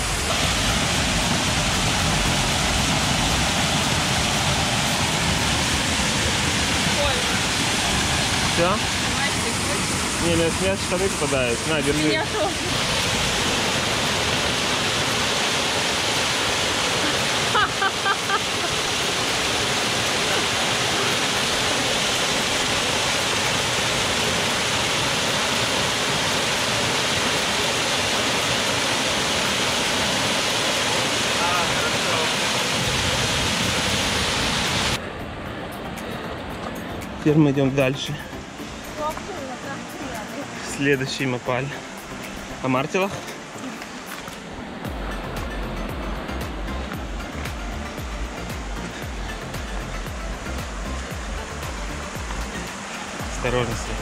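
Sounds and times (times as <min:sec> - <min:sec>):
waterfall pouring into pool: 0:00.0 - 0:35.0, 0:37.2 - 0:54.0.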